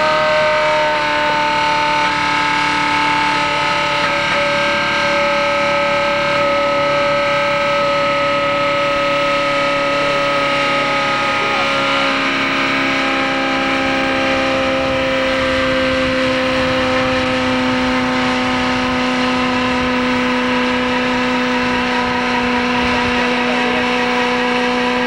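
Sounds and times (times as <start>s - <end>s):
car engine at high revs: 0.0s - 25.0s
tires spinning: 0.0s - 25.0s.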